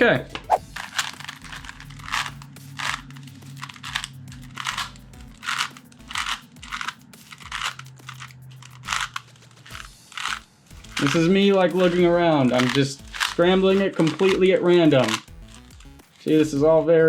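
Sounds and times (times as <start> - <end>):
plastic puzzle cube turning: 0.8 - 16.5.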